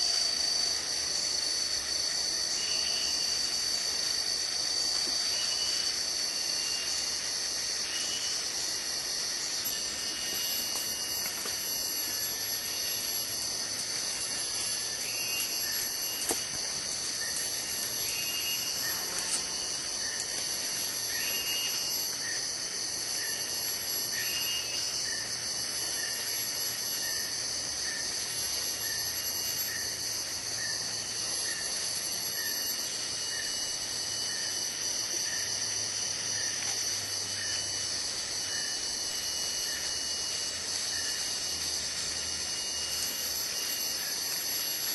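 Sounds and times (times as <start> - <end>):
forest insects droning: 0.0 - 44.9.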